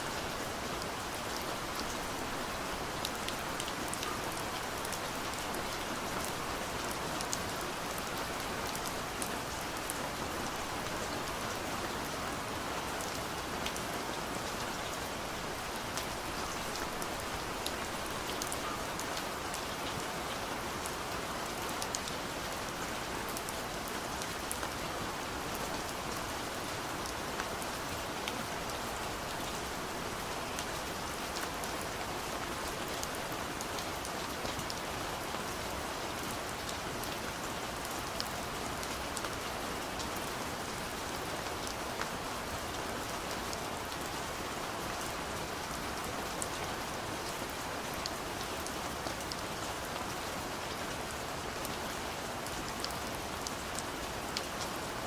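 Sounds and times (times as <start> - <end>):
light rain on a window: 0.0 - 55.0.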